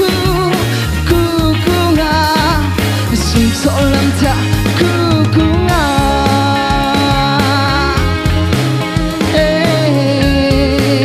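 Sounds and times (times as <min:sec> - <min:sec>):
man singing into microphone: 0:00.0 - 0:08.4, 0:09.2 - 0:11.0
backing music with bass and beat: 0:00.0 - 0:11.0.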